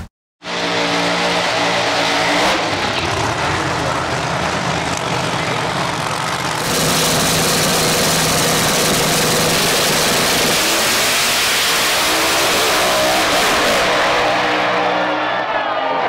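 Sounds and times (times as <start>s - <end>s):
race car engines at full throttle: 0.4s - 16.0s.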